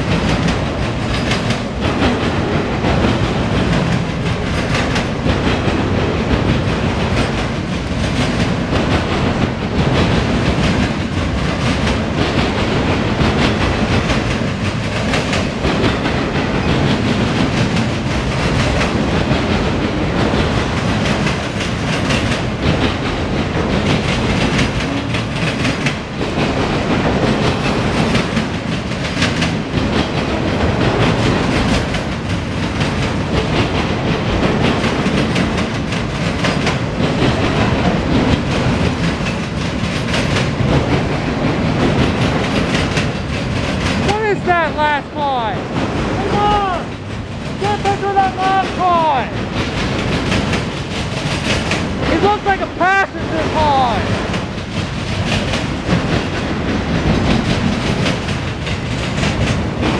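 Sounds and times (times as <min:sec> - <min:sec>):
steel wheels rumbling on rail: 0:00.0 - 0:59.9
wheels clacking over rail joints: 0:00.0 - 0:59.9.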